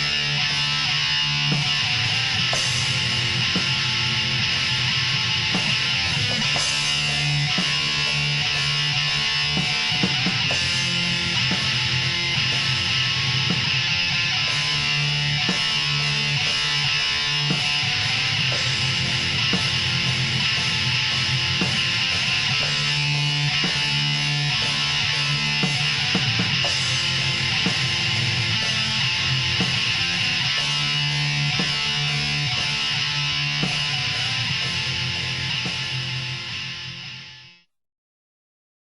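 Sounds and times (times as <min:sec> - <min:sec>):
distorted electric guitars: 0:00.0 - 0:37.7.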